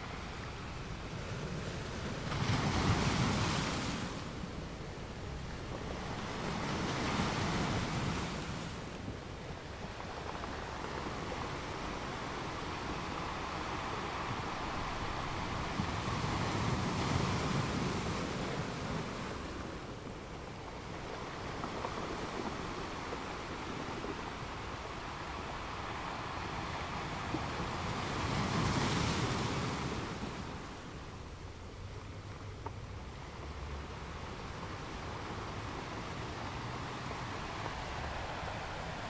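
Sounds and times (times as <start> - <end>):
ocean waves washing: 0.0 - 39.0.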